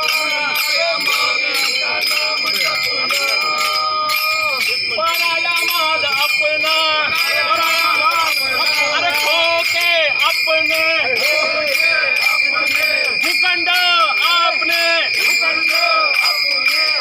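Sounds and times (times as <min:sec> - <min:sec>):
hand cymbals ringing: 0:00.0 - 0:17.0
men chanting in unison: 0:00.0 - 0:17.0.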